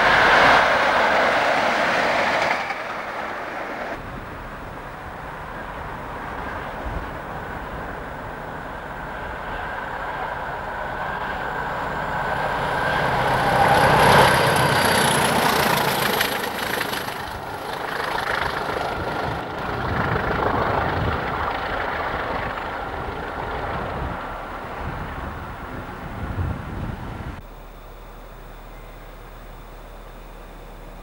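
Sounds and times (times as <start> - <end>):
diesel locomotives passing: 0.0 - 31.0.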